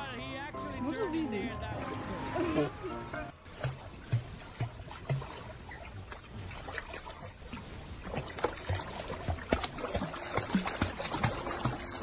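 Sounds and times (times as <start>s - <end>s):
water splashing and lapping: 0.0s - 12.0s.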